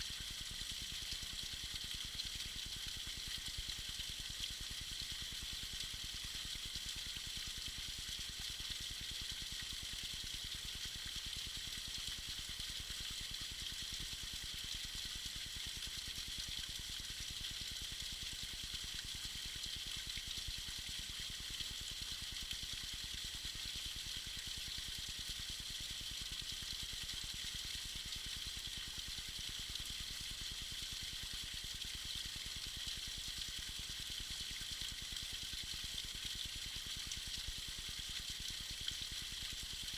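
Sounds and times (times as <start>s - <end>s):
small waterfall pouring: 0.0s - 39.9s.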